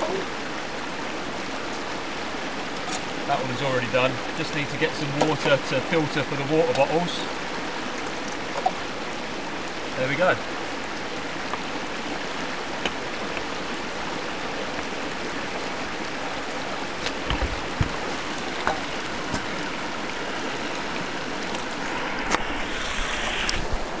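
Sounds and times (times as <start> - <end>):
river water flowing: 0.0 - 24.0
water splashing: 0.0 - 24.0.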